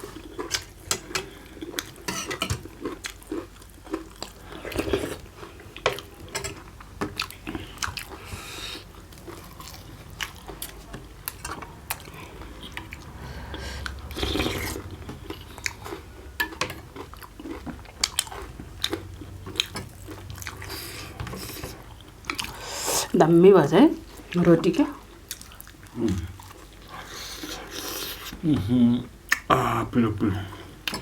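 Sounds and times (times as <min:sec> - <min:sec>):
people chewing: 0:00.0 - 0:23.2, 0:24.0 - 0:31.0.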